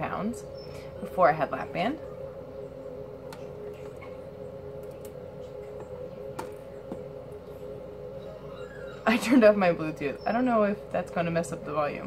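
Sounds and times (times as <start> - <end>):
two-pitch hum: 0.0 - 12.0.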